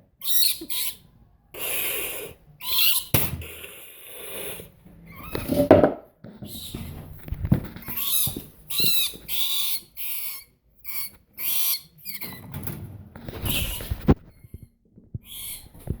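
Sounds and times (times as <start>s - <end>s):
rat squealing and hissing: 0.2s - 5.7s, 6.4s - 7.0s, 7.8s - 12.6s, 13.3s - 16.0s.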